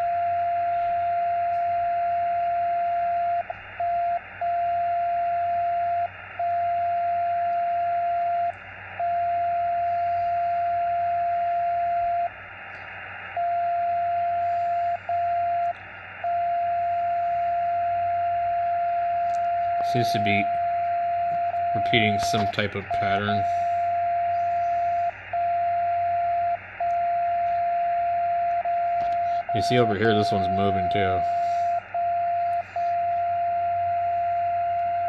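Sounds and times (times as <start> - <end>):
receiver hiss: 0.0 - 35.0
steady radio tone: 0.0 - 35.0.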